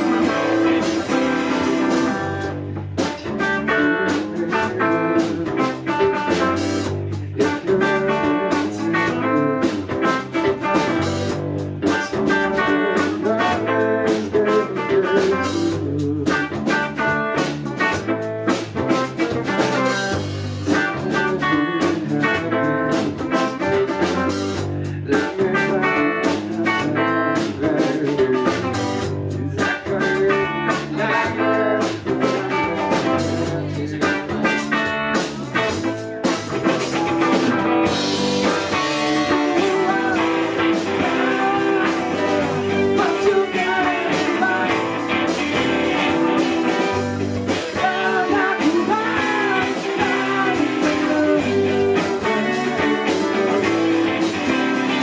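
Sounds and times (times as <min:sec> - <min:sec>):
live band with guitar and drums: 0:00.0 - 0:55.0.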